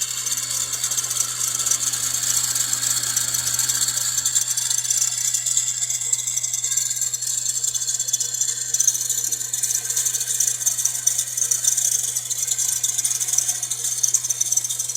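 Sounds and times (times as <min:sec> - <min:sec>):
pulley rattling and scraping: 0:00.0 - 0:14.9.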